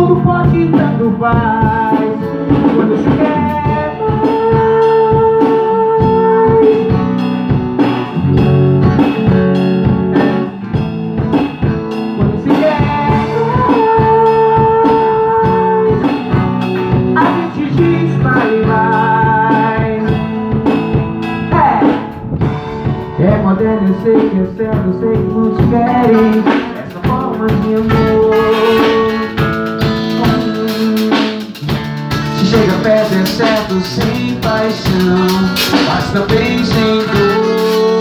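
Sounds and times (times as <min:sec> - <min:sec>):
drum kit beat: 0:00.0 - 0:38.0
guitar and bass: 0:00.0 - 0:38.0.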